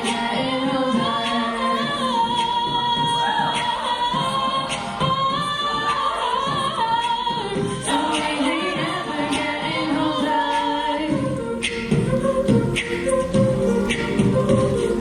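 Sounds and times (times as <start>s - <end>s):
a cappella group singing harmony: 0.0s - 15.0s.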